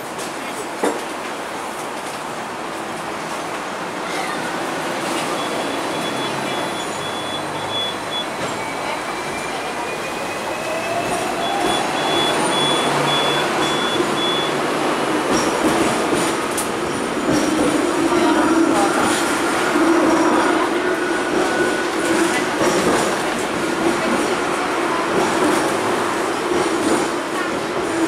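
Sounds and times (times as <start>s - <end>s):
tram rolling on track: 0.0s - 28.0s.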